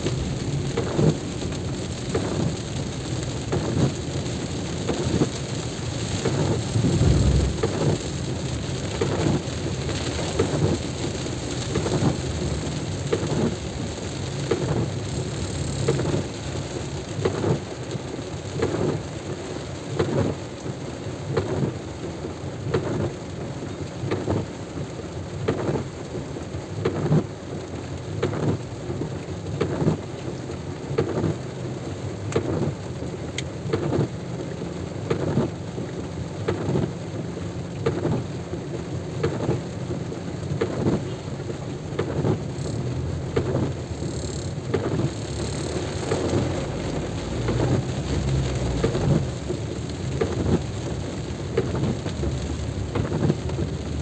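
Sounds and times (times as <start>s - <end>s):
heavy rain falling: 0.0s - 54.0s
raindrops striking close: 0.0s - 54.0s.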